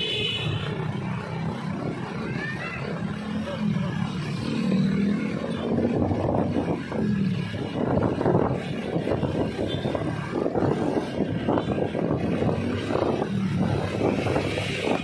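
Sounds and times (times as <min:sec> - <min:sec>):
road and wind rush: 0:00.0 - 0:15.0.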